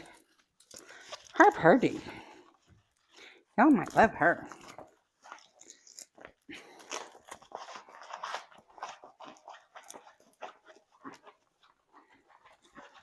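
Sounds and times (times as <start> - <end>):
crackling and crunching: 0.0 - 13.0.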